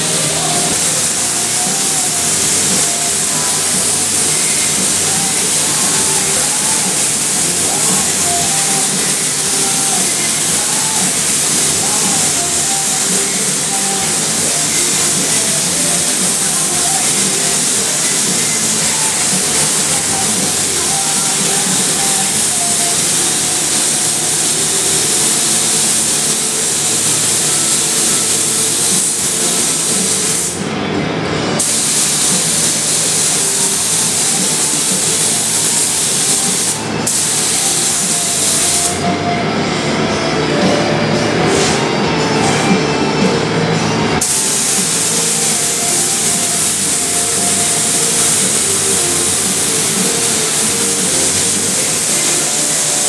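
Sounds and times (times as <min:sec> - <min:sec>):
spray gun hissing: 0:00.0 - 0:30.6, 0:31.6 - 0:39.2, 0:44.2 - 0:53.0.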